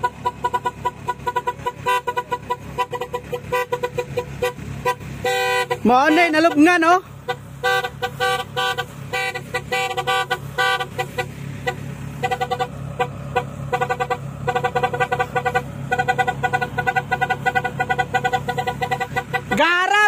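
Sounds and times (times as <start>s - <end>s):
harvester engine hum: 0.0s - 20.0s.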